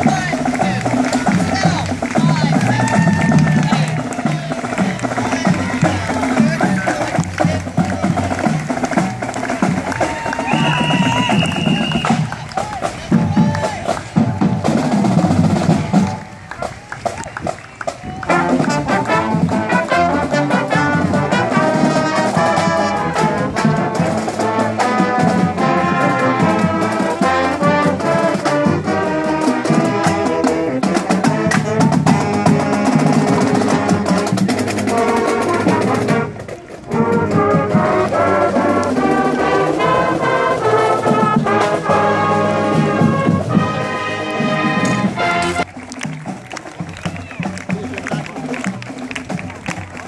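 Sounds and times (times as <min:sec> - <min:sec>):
marching band playing: 0:00.0 - 0:50.0.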